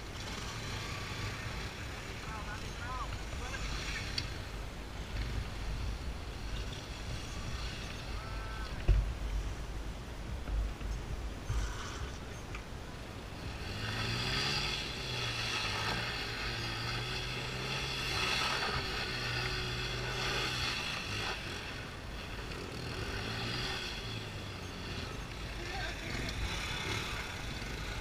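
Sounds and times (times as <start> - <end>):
motorcycle engine revving: 0.0 - 9.6, 13.0 - 28.0.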